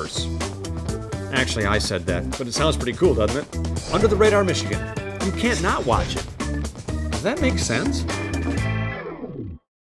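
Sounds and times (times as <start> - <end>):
background music held chord: 0.0 - 9.0.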